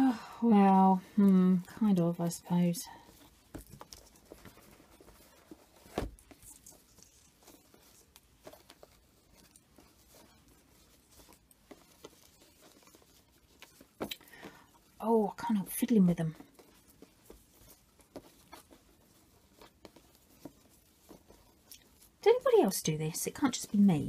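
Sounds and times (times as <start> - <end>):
ribbon rustling: 0.0 - 24.0.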